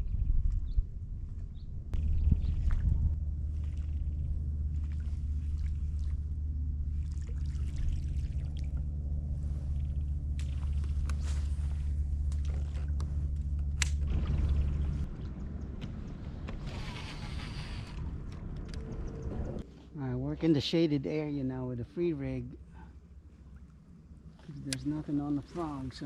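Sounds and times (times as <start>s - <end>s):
water lapping: 2.1s - 19.6s, 22.6s - 26.0s.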